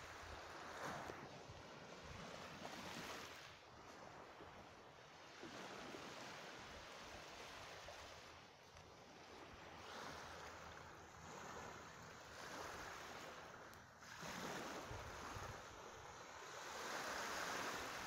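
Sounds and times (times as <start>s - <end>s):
small waves lapping on sand: 0.0s - 18.0s.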